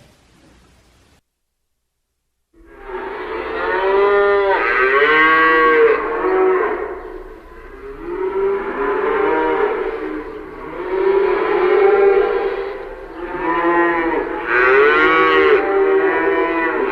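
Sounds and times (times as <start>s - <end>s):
cows mooing: 2.6s - 16.9s.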